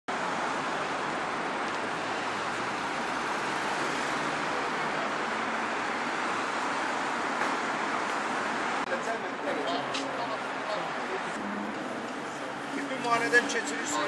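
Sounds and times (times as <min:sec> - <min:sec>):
road traffic rushing: 0:00.1 - 0:14.0.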